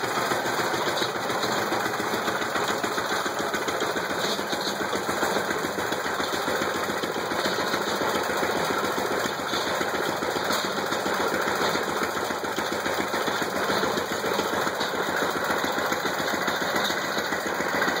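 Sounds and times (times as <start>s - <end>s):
single-cylinder engine running: 0.0s - 18.0s.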